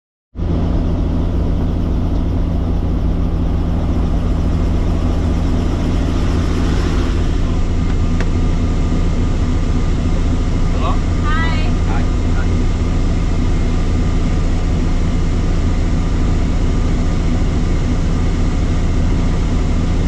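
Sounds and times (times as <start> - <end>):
helicopter drone: 0.4 - 20.0.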